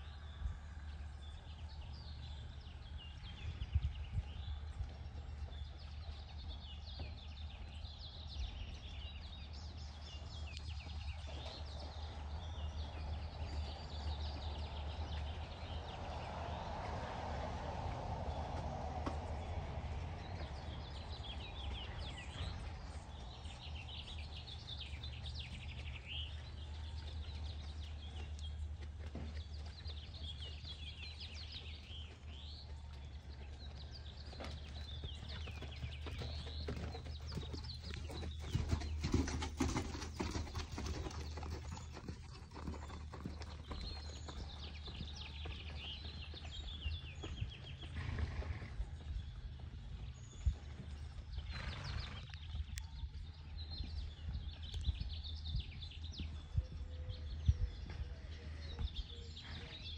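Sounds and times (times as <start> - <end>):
birds chirping: 0.0 - 16.8, 18.3 - 59.9
horse hoofbeats on sand: 3.2 - 59.9.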